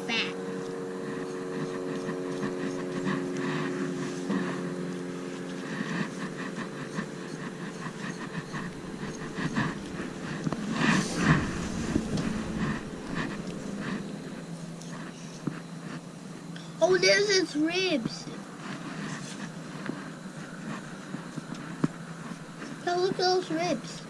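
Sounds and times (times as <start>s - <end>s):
motor-like hum: 0.0s - 24.0s.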